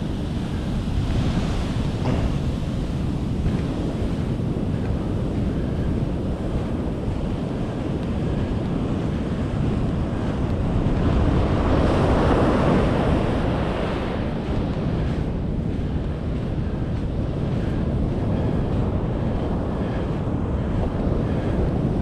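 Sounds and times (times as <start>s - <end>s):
ocean surf breaking: 0.0s - 21.9s
wind buffeting microphone: 0.0s - 22.0s.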